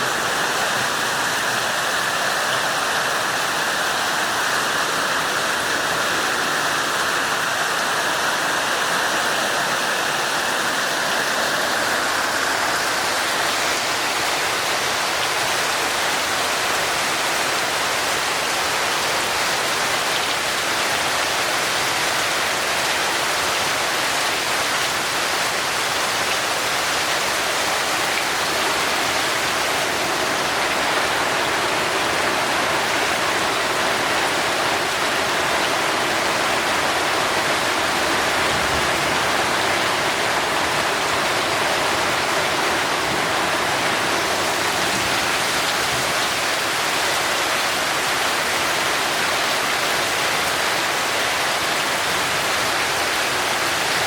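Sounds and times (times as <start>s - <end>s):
torrential rain pouring: 0.0s - 54.0s.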